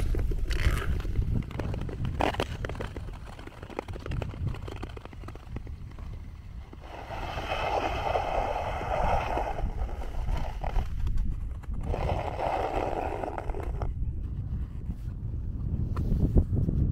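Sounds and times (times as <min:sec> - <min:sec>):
skate blades scraping on ice: 0:00.0 - 0:14.0
wind rumble on microphone: 0:00.0 - 0:16.9.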